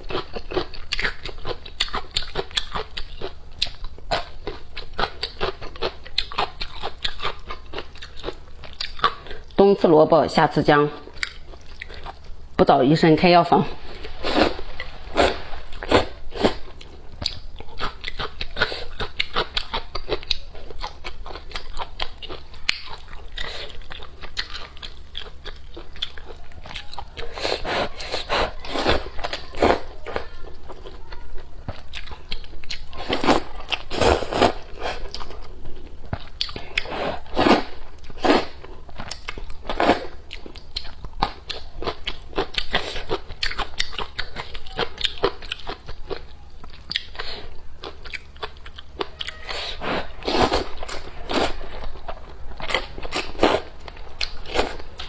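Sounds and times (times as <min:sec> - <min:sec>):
person chewing crunchy food: 0:00.0 - 0:09.6, 0:11.0 - 0:12.6, 0:13.7 - 0:55.0.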